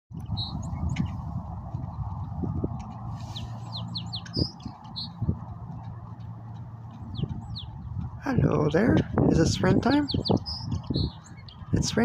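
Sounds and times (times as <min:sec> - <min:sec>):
low background rumble: 0:00.2 - 0:12.0
songbird chirping: 0:00.2 - 0:12.0.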